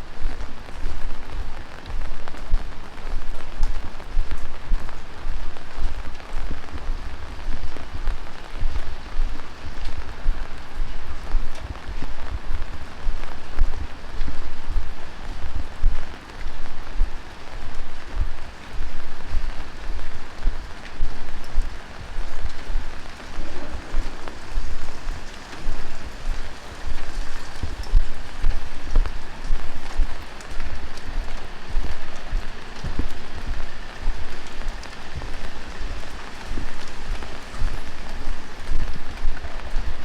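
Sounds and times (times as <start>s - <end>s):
heavy rain on pavement: 0.0s - 40.0s
dull low thumps: 0.2s - 35.9s.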